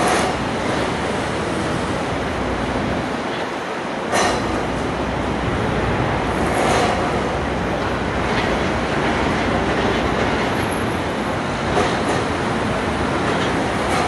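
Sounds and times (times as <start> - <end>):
construction site and street din: 0.0 - 14.0.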